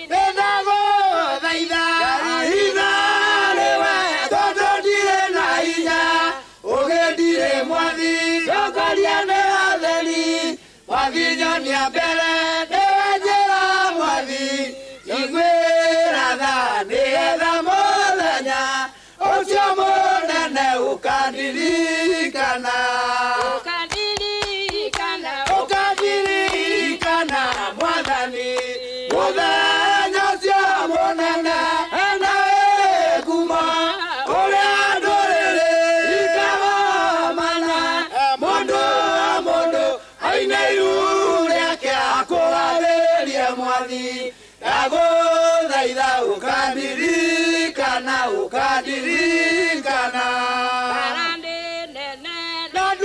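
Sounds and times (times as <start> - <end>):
mixed choir singing gospel: 0.0 - 53.0.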